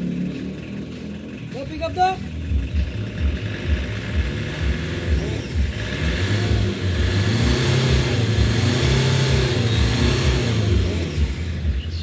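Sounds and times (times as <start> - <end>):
engine exhaust revving: 0.0 - 12.0.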